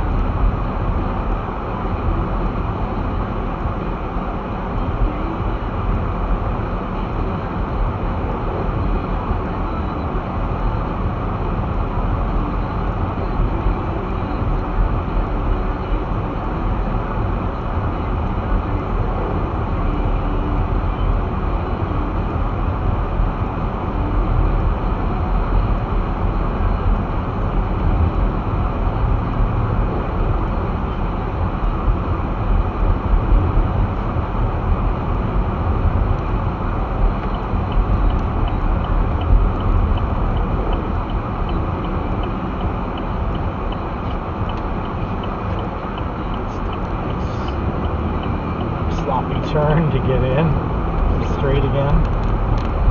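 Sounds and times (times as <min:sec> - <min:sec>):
car tyres and engine rumbling: 0:00.0 - 0:52.9.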